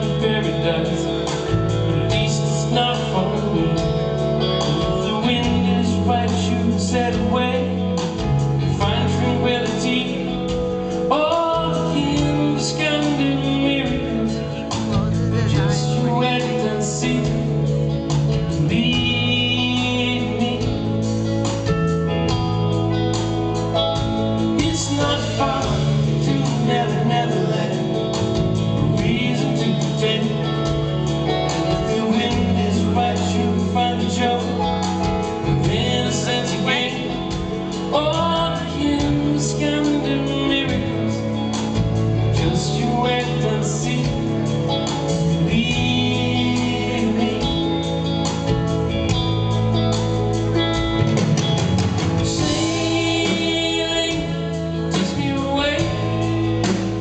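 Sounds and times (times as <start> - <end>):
man singing: 0.0 - 50.9, 52.0 - 57.0
bass guitar: 0.0 - 57.0
electric guitar: 0.0 - 57.0.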